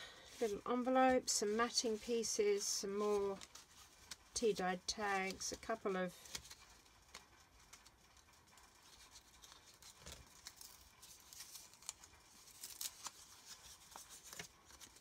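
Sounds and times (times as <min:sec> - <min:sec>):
paper and card rustling: 0:00.2 - 0:15.0.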